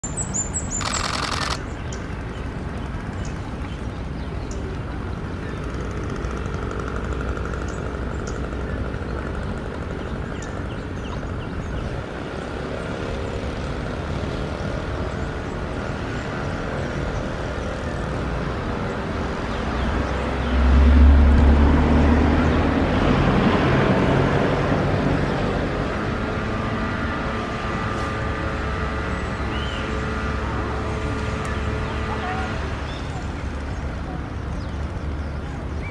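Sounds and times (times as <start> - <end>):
engine rumble of passing vehicle: 0.0 - 35.9.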